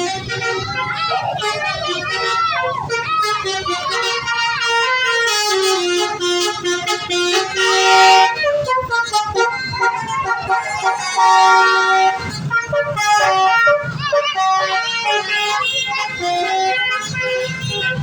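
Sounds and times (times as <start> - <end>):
musical bus air horn: 0.0 - 18.0.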